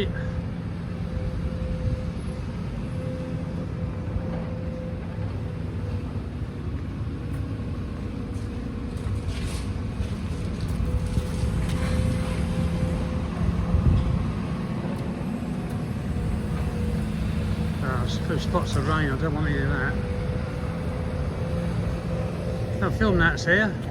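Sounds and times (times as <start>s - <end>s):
engine rumble: 0.0s - 23.9s.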